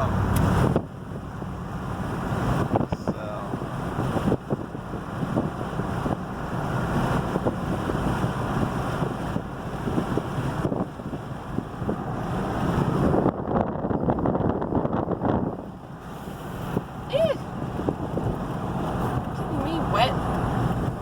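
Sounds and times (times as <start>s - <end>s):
wind rushing across microphone: 0.0s - 21.0s.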